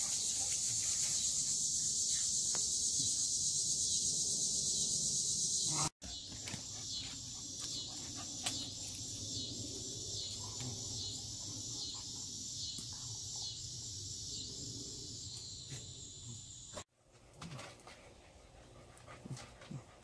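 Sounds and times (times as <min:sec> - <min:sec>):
insects buzzing: 0:00.0 - 0:16.8.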